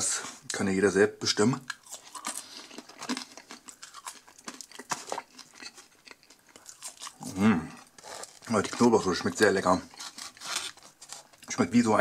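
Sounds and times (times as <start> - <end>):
person chewing chips: 1.6 - 11.6.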